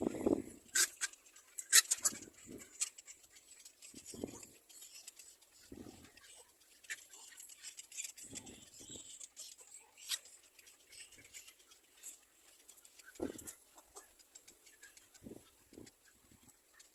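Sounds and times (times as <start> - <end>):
nestlings chirping and rustling: 0.4 - 16.9.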